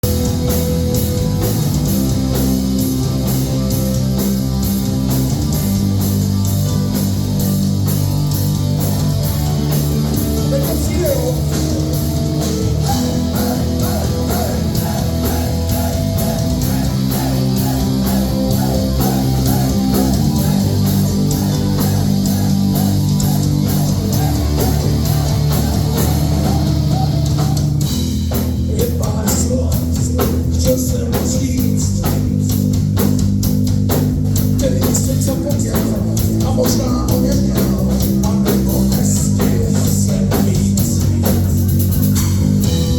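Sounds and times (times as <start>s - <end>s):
rock band playing: 0.0s - 42.9s.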